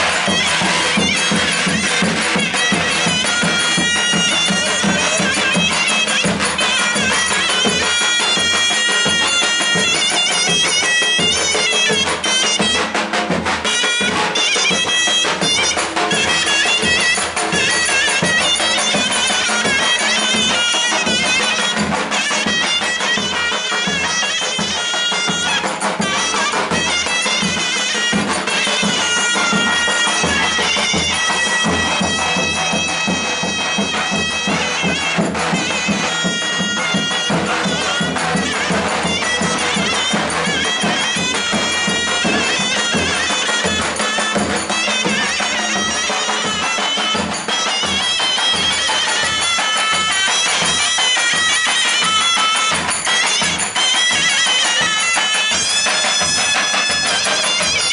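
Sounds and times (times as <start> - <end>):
reedy wind instrument melody: 0.0 - 57.9
steady rhythmic drum beat: 0.0 - 57.9.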